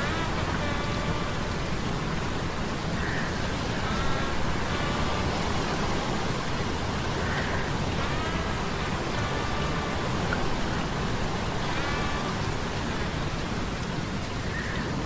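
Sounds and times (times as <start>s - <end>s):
faint humming tones: 0.0s - 14.4s
rain-like noise: 0.0s - 15.0s.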